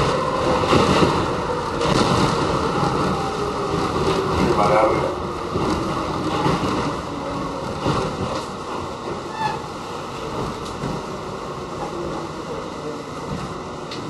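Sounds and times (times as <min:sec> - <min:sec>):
subway wheels rushing on rails: 0:00.0 - 0:14.0.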